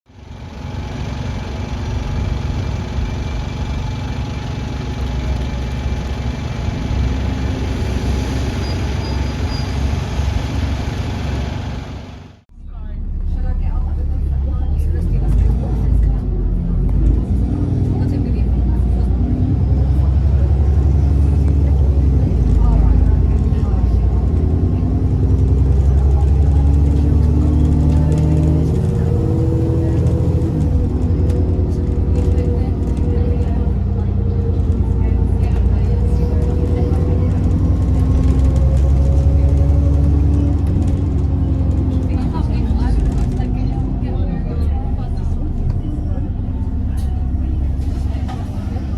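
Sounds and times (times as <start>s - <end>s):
diesel bus engine rumbling: 0.1s - 48.9s.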